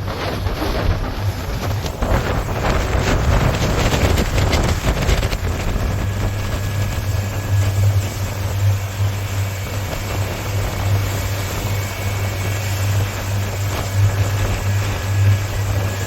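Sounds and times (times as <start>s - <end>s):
boat engine humming: 0.0s - 16.0s
wind buffeting microphone: 0.0s - 16.0s.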